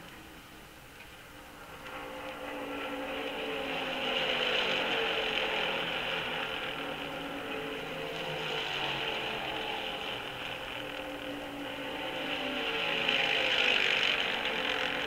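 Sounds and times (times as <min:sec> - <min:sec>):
race car engines passing: 0:01.2 - 0:15.0.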